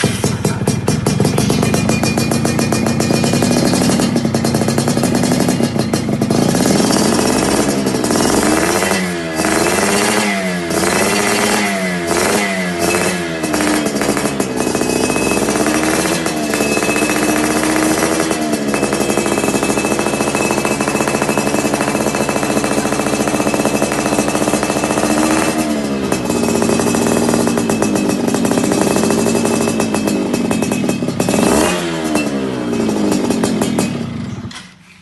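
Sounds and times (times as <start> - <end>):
two-stroke motorcycle engine: 0.0 - 35.0.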